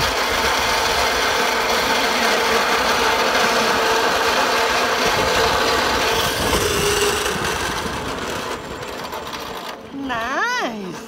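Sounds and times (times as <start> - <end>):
zipline pulleys rolling on cable: 0.0 - 11.0.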